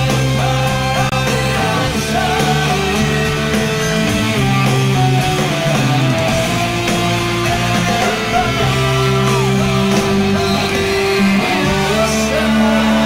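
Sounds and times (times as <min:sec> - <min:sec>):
electric guitar sustained bent notes: 0:00.0 - 0:13.0
rock band playing: 0:00.0 - 0:13.0.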